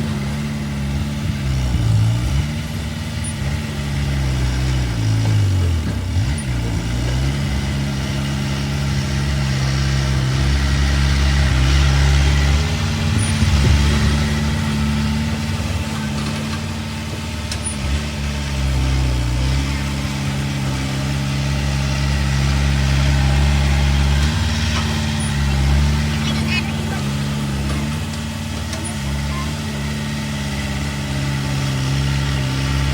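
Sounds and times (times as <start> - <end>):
heavy diesel engine under load: 0.0 - 32.9.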